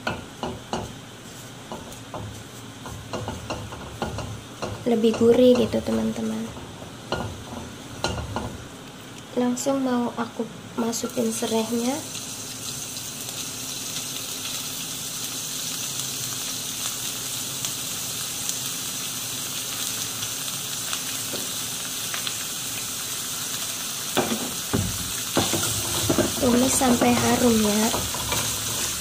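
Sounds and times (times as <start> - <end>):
lemongrass sizzling in oil: 0.0 - 29.0.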